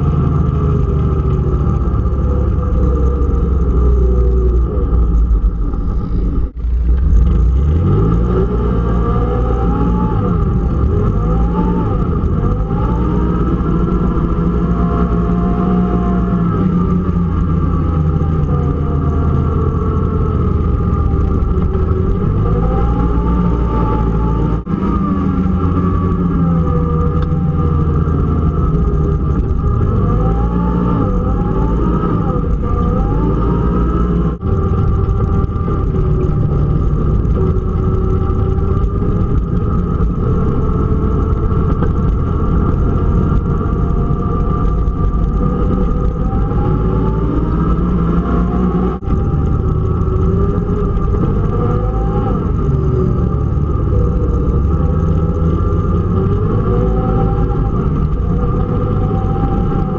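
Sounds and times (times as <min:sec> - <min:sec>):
atv engine rumbling: 0:00.0 - 0:59.9.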